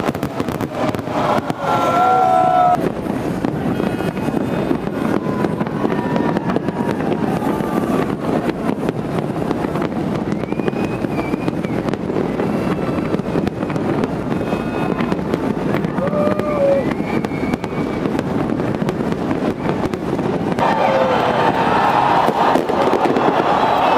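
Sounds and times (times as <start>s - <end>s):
crowd voices: 0.0s - 23.9s
fireworks rumbling and crackling: 0.0s - 23.9s
wind on microphone: 0.0s - 23.9s.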